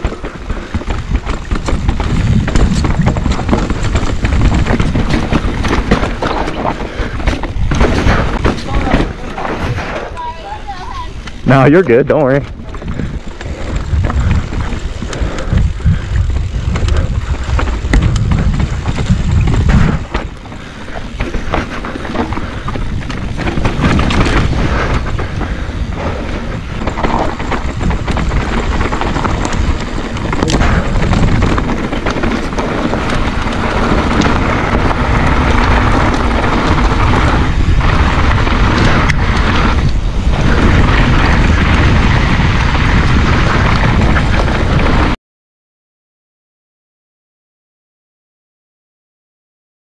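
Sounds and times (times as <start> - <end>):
bike tyres rumbling over dirt: 0.0 - 45.2
wind buffeting microphone: 0.0 - 45.2.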